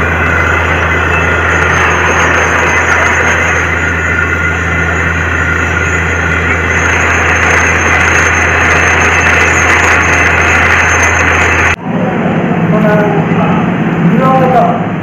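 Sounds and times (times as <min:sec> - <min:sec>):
dense rushing noise: 0:00.0 - 0:14.2
drilling rig engine hum: 0:00.0 - 0:15.0.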